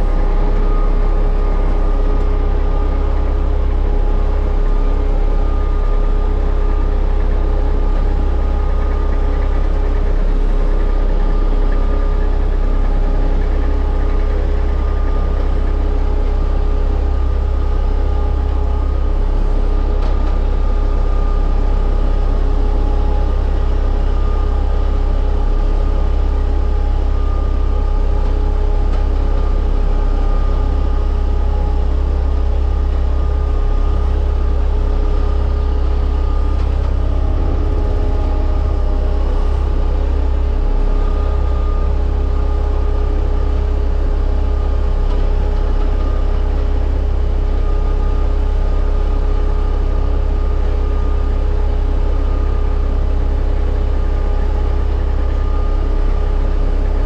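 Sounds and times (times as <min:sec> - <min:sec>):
diesel roller engine droning: 0:00.0 - 0:57.0.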